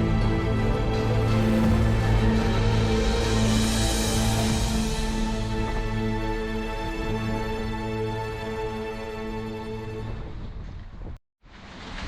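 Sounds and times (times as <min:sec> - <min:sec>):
soft sustained music chords: 0:00.0 - 0:10.0.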